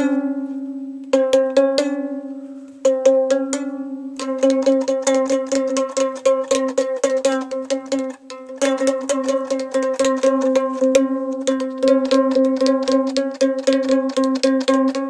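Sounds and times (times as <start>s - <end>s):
plucked string instrument: 0.0s - 15.0s.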